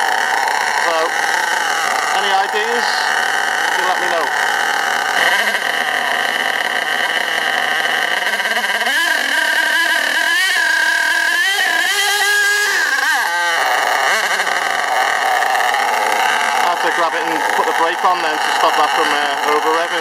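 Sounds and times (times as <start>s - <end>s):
nitro engine revving: 0.0s - 20.0s.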